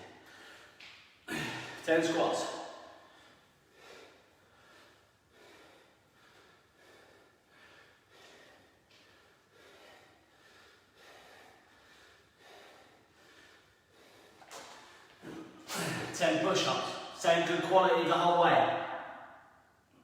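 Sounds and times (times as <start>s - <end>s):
man breathing hard: 0.0s - 1.9s, 2.5s - 17.2s.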